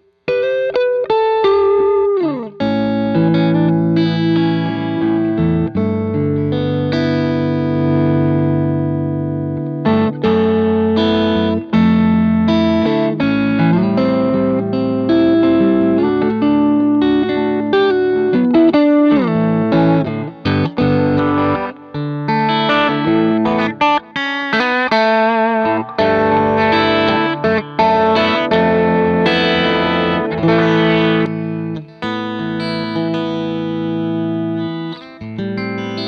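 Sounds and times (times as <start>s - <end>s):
electric guitar chords and notes: 0.0s - 36.0s.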